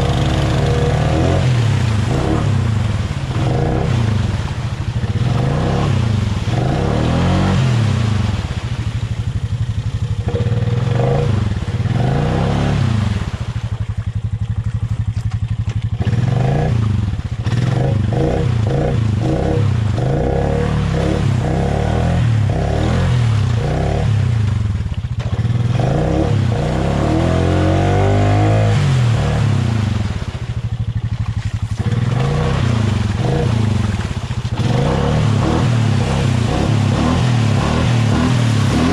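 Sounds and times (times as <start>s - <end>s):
atv engine revving: 0.0s - 8.5s, 10.0s - 13.6s, 15.9s - 38.9s.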